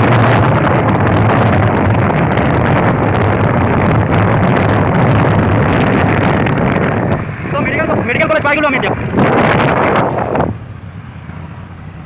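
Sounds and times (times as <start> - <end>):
rushing travel noise: 0.0 - 12.0
vehicle engine running: 0.0 - 12.0.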